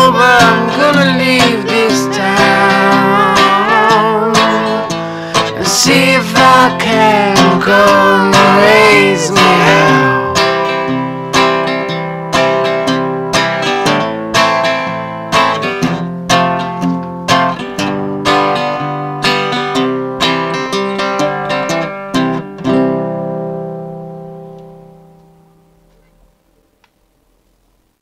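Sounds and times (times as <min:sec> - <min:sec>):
guitar strumming: 0:00.0 - 0:26.8.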